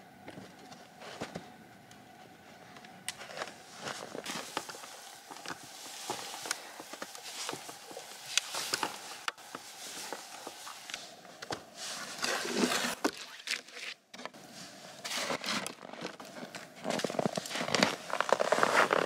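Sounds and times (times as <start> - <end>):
snow crunching and scraping: 2.4 - 19.0.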